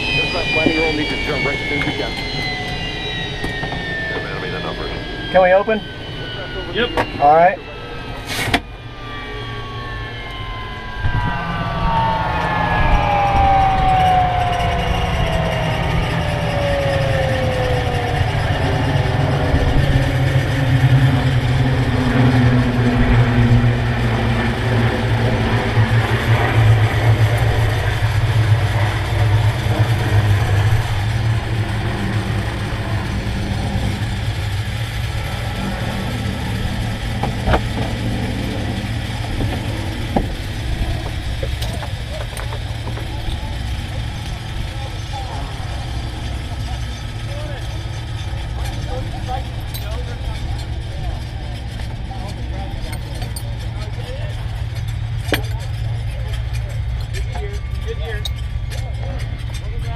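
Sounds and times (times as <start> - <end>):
jet engine whine spooling down: 0.0 - 59.9
steady low rumble: 0.0 - 59.9.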